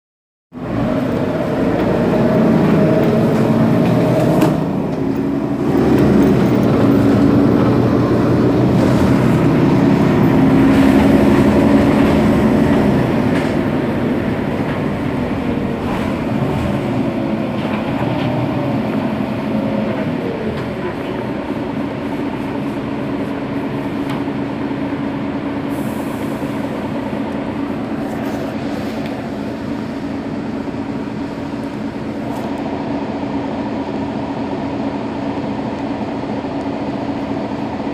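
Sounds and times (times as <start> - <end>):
bus diesel engine idling: 0.6 - 37.9.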